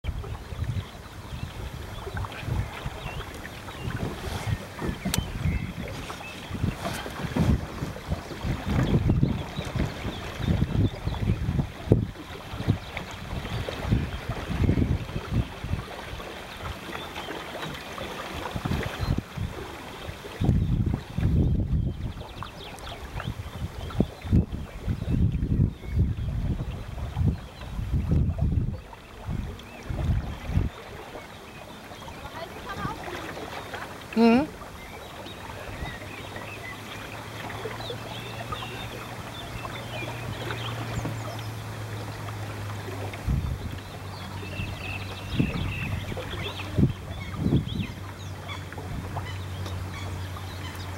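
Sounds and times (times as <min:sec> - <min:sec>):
wind buffeting microphone: 0:00.0 - 0:16.8, 0:18.4 - 0:31.1, 0:37.6 - 0:50.9
water splashing against hull: 0:00.0 - 0:50.9.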